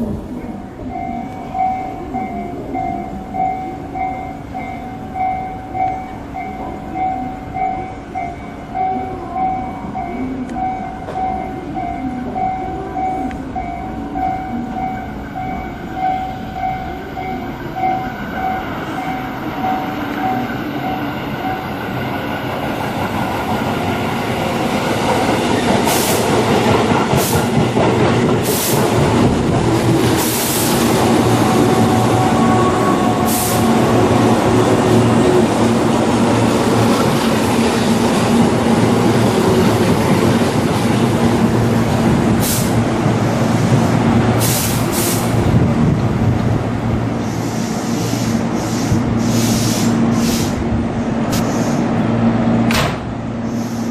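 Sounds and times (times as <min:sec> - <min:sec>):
electric train running past: 0:00.0 - 0:53.9.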